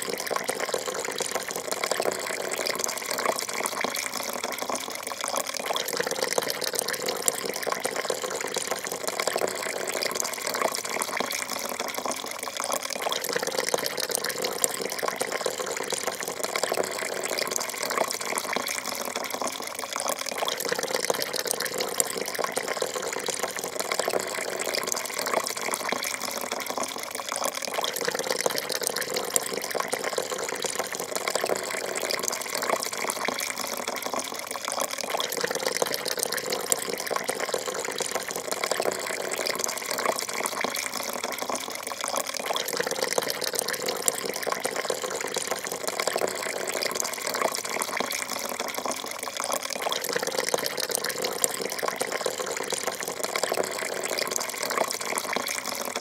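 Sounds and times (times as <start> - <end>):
coffee pouring into a cup: 0.0 - 56.0.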